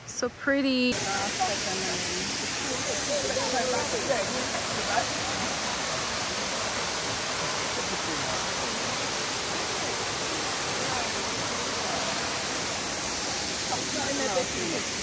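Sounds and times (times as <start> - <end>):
river and waterfall rushing: 0.9 - 15.0.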